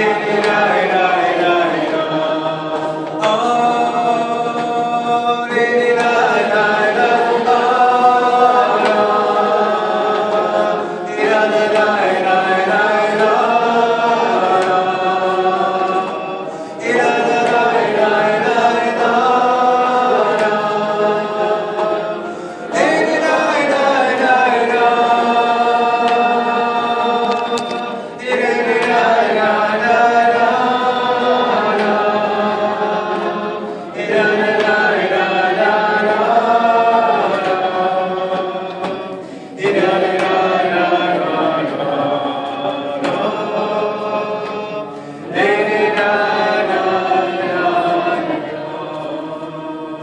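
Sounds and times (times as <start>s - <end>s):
people singing wordless melody together: 0.0s - 50.0s.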